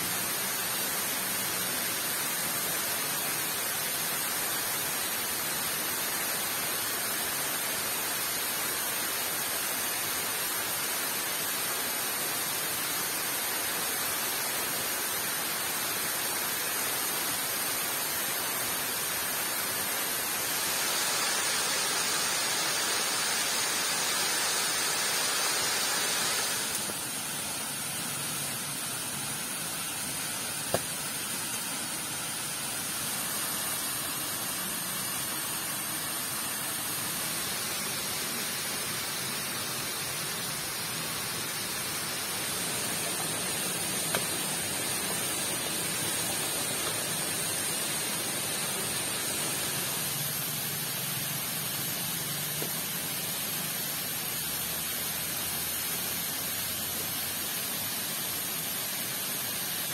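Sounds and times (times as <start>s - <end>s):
falling water hiss: 0.0s - 59.9s.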